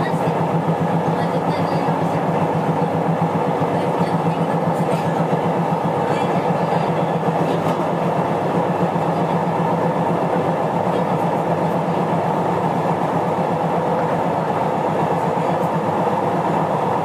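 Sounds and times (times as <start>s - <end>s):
train running hum and rumble: 0.0s - 17.0s.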